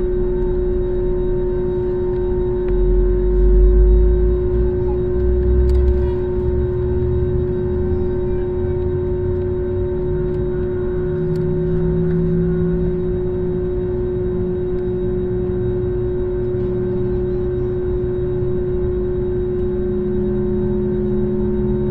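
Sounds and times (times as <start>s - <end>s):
jet engines idling in cabin: 0.0s - 21.9s.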